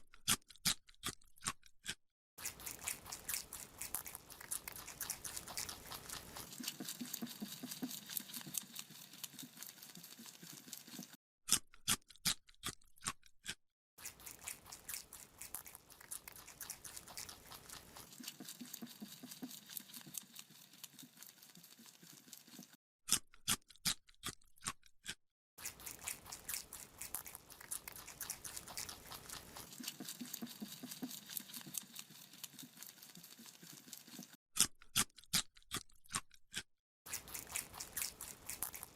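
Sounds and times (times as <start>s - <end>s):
rabbit chewing a carrot: 0.0s - 38.9s.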